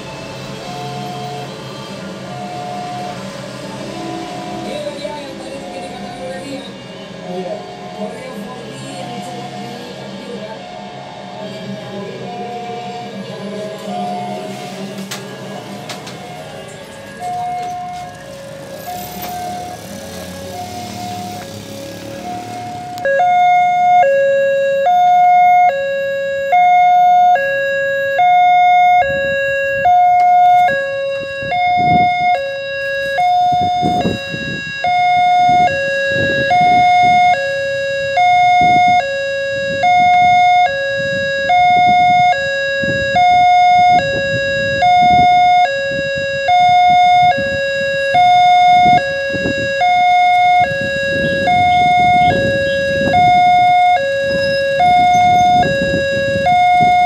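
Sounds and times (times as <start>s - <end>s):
road vehicles passing: 0.0s - 57.0s
level crossing two-tone alarm: 0.6s - 1.6s, 2.2s - 11.4s, 12.1s - 57.0s.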